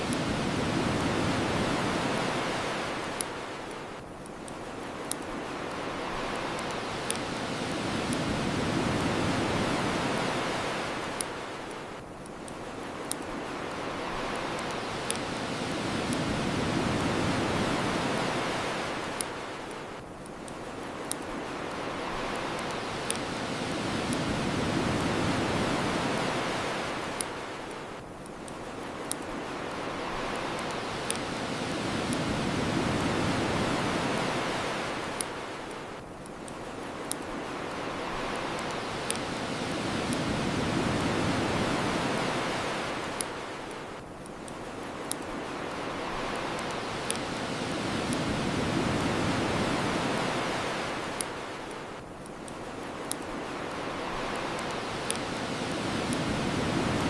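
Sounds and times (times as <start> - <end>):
bonfire crackling and popping: 0.0 - 57.0
ocean waves washing ashore: 0.0 - 57.0.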